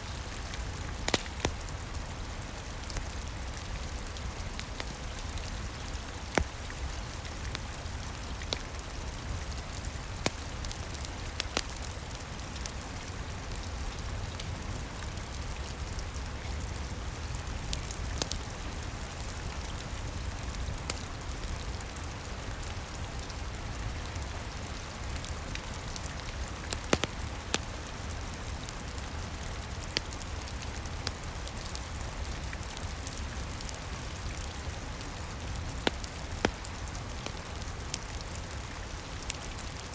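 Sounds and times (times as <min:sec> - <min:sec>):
rain on a roof: 0:00.0 - 0:39.9
wood fire crackling: 0:00.0 - 0:39.9.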